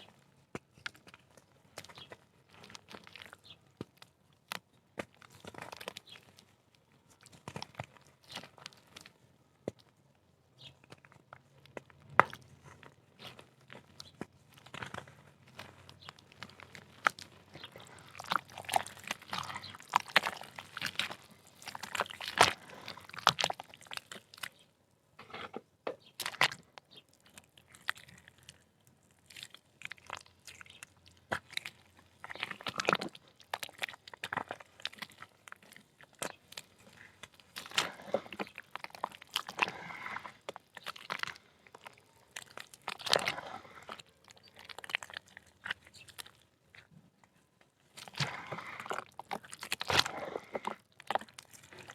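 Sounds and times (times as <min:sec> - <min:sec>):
dried mud crumbling in hands: 0:00.1 - 0:24.7, 0:25.7 - 0:51.9.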